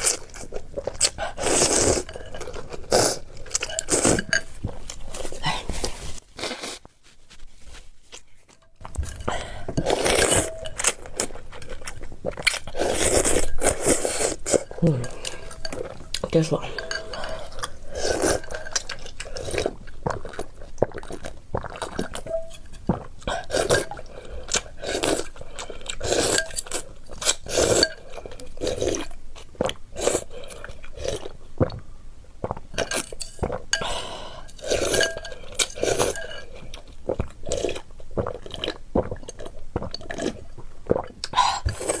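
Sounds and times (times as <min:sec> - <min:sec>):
slurping and chewing noodles: 0:00.0 - 0:06.9, 0:07.8 - 0:31.8, 0:32.4 - 0:42.0
slurping and gulping broth: 0:00.0 - 0:06.9, 0:08.8 - 0:31.8, 0:32.4 - 0:42.0.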